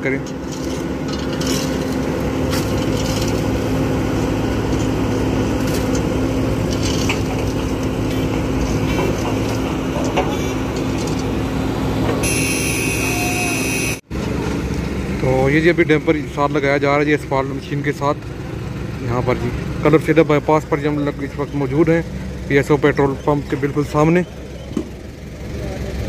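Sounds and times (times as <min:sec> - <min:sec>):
heavy diesel engines running: 0:00.0 - 0:26.0.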